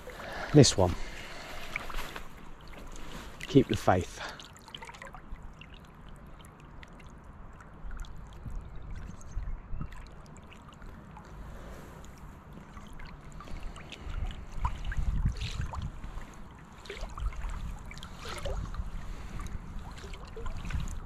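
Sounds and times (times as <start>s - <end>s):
river water lapping: 0.0s - 21.0s.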